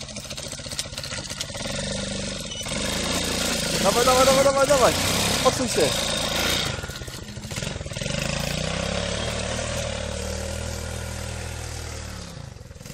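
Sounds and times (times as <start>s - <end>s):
quad bike engine revving: 0.0s - 12.9s.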